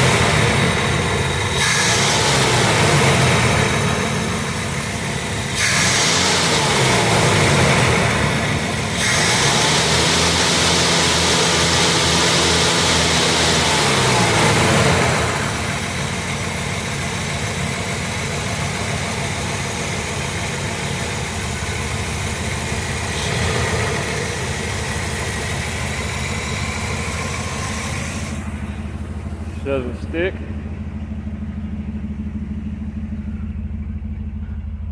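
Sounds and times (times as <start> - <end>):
car engine revving and idling: 0.0 - 34.9.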